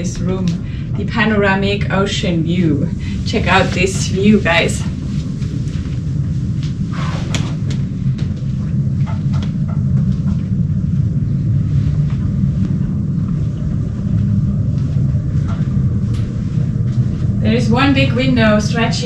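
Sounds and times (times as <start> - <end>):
ship low rumble: 0.0 - 19.0.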